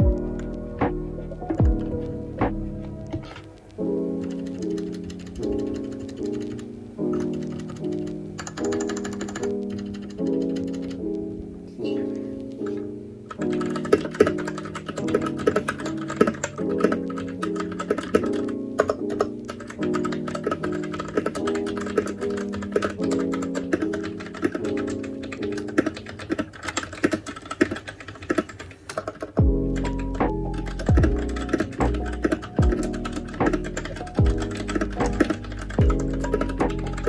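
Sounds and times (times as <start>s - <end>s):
background music: 0.0s - 37.0s
fast mechanical keyboard typing: 4.2s - 11.1s, 13.3s - 37.0s.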